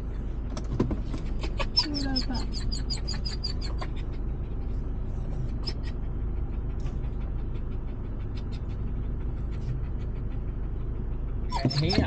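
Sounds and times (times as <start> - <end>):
van engine low rumble: 0.0 - 12.0.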